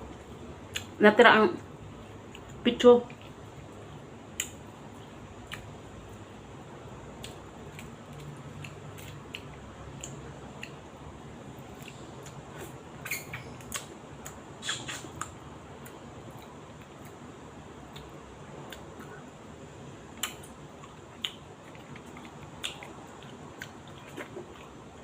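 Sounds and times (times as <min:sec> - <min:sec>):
person chewing food: 0:01.9 - 0:06.4, 0:07.1 - 0:19.5, 0:20.1 - 0:25.0.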